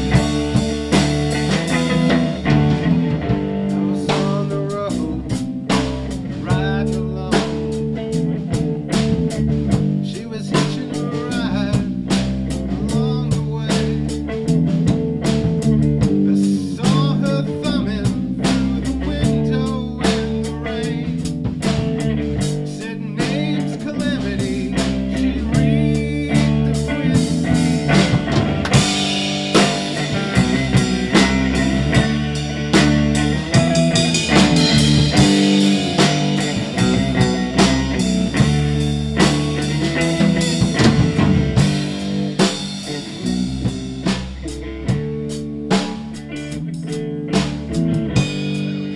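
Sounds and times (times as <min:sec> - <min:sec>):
live blues-rock band: 0:00.0 - 0:48.9.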